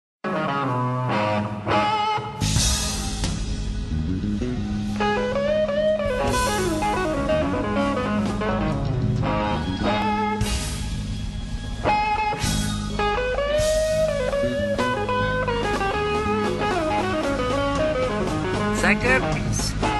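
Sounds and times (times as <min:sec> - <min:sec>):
blues-rock music with guitar: 0:00.2 - 0:19.9.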